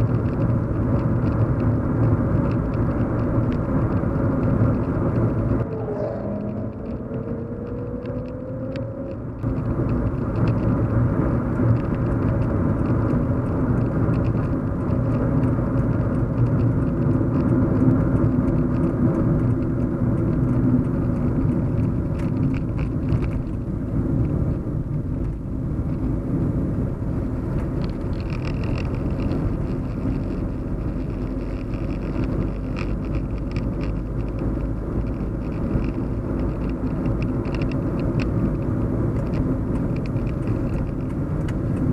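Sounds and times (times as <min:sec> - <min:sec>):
car engine drone: 0:00.0 - 0:41.9
road and tyre noise: 0:00.0 - 0:41.9.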